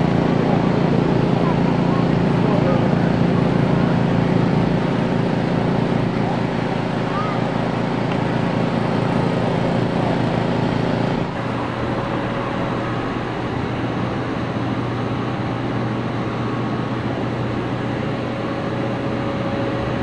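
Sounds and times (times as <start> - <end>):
constant hum: 0.0 - 20.0
mechanical running noise: 0.0 - 20.0.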